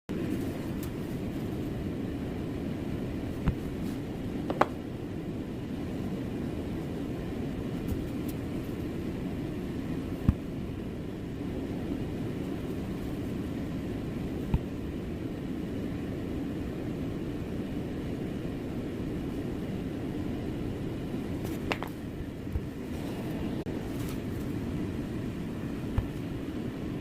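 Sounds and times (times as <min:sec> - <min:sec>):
steady low rumbling: 0:00.1 - 0:27.0.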